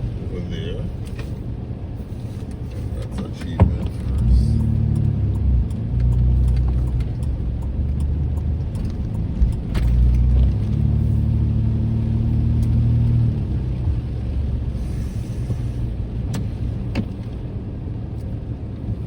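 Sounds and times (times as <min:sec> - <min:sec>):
car engine and road drone: 0:00.0 - 0:19.0.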